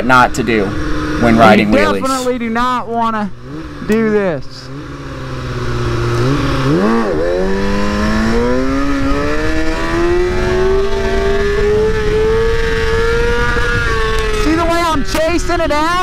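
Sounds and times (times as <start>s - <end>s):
motorcycle engine revving: 0.0s - 15.3s.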